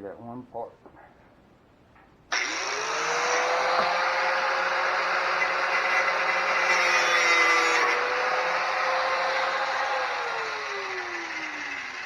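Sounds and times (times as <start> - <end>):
angle grinder motor whine: 2.3 - 12.0
grinder cutting steel tube: 2.3 - 12.0.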